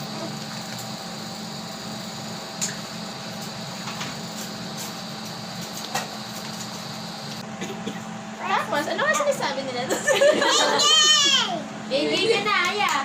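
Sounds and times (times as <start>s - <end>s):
mechanical room hum: 0.0s - 13.0s.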